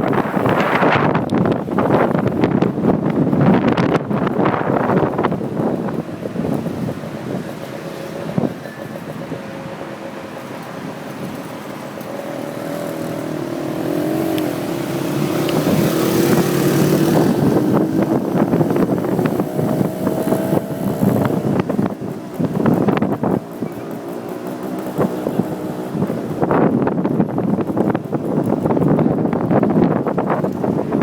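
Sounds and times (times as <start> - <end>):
engine accelerating: 0.0 - 31.0
motorcycle riding in traffic: 0.0 - 31.0
wind on microphone: 0.0 - 31.0.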